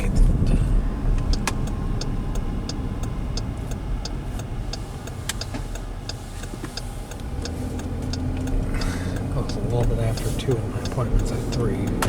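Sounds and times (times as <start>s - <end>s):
road and engine rumble in car: 0.0s - 12.0s
turn signal ticking: 0.0s - 12.0s.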